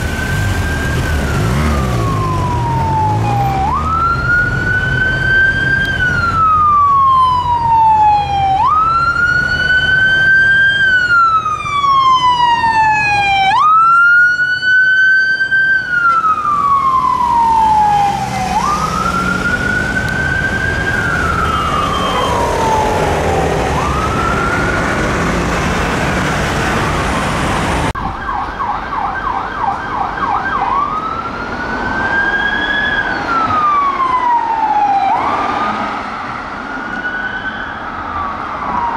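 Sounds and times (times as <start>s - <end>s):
police siren wailing: 0.0s - 38.9s
siren yelping: 0.2s - 36.0s, 36.6s - 38.9s.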